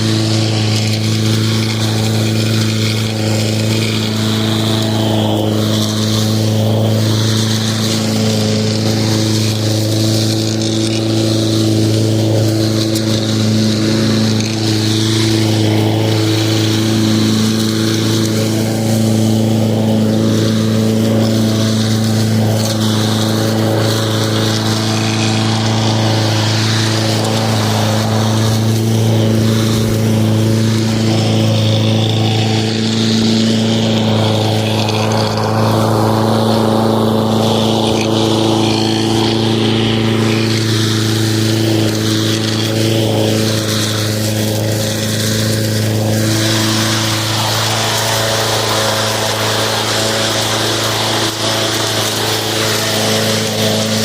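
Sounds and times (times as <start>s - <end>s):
lawn mower running: 0.0s - 54.0s.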